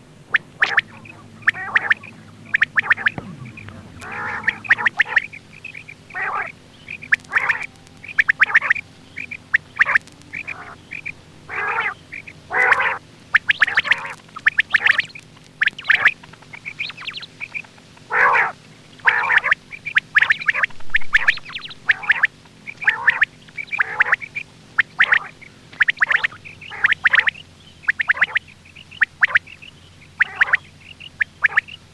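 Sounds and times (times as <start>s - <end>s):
faint steady hum: 0.0s - 31.9s
raspy quail calls: 0.0s - 31.9s.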